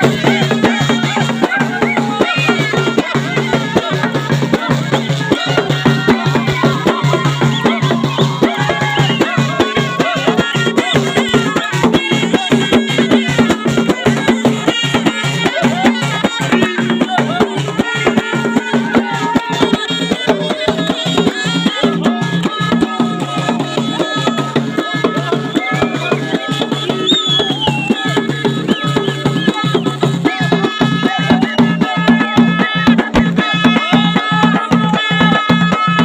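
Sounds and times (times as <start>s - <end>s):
shawm playing ornamented melody: 0.0s - 36.0s
steady drum beat: 0.0s - 36.0s.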